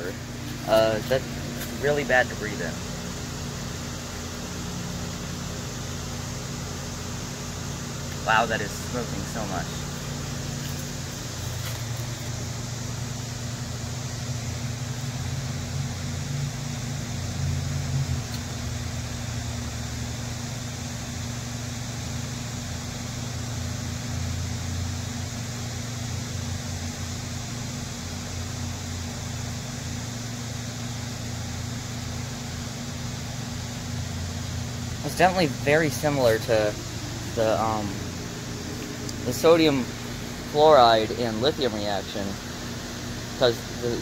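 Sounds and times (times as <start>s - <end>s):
machine humming with hiss: 0.0s - 44.0s.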